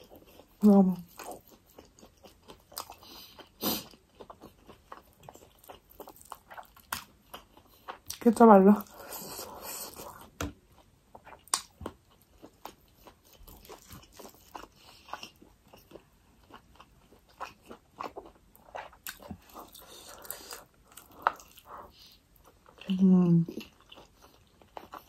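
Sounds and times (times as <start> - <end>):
chewing and mouth sounds: 0.0 - 25.0.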